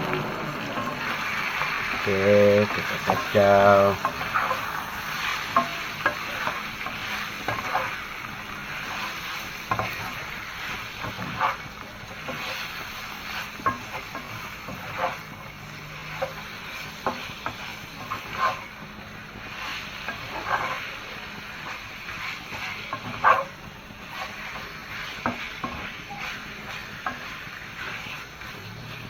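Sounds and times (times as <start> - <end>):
food sizzling in hot oil: 0.0 - 29.0
spatula scraping a pan: 0.0 - 29.0.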